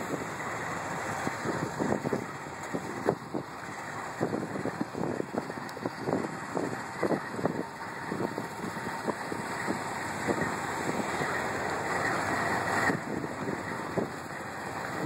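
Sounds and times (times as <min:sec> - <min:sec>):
locomotive passing rumble: 0:00.0 - 0:15.0
wind buffeting microphone: 0:00.0 - 0:15.0.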